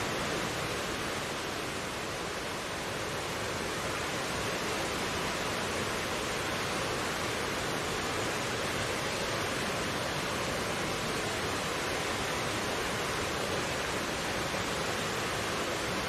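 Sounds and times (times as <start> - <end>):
mountain stream flowing: 0.0 - 16.0.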